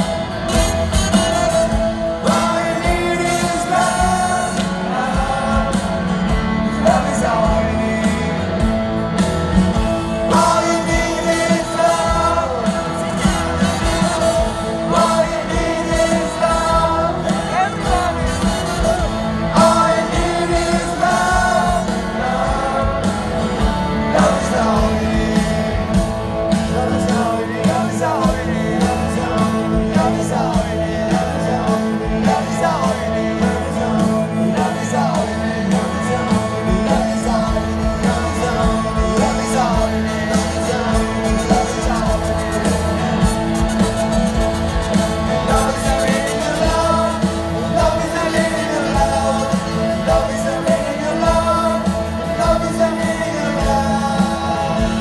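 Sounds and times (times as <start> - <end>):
electric guitar: 0.0 - 55.0
live rock band playing: 0.0 - 55.0
man singing lead: 0.0 - 55.0.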